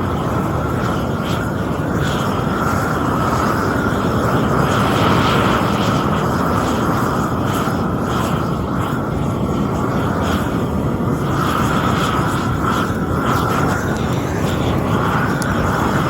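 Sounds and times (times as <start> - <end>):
gas torch flame roaring: 0.0 - 16.0.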